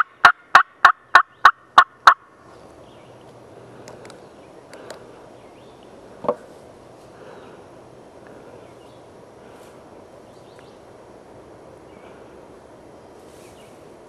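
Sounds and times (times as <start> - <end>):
faint songbird notes: 2.4 - 14.0.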